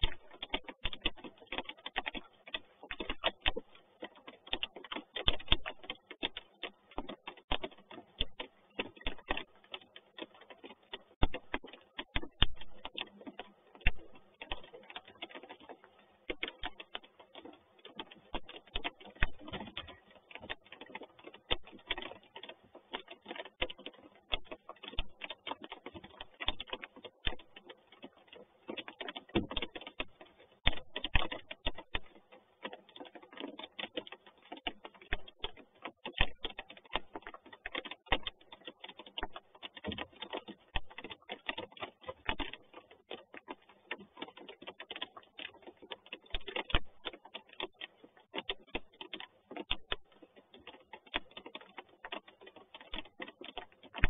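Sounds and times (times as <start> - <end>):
rain tapping on wood: 0.0 - 54.0.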